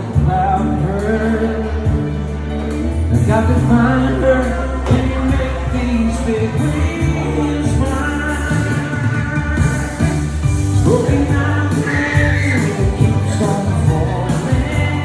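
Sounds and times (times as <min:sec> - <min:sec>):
karaoke backing track: 0:00.0 - 0:15.0
man singing a slow ballad: 0:00.0 - 0:15.0.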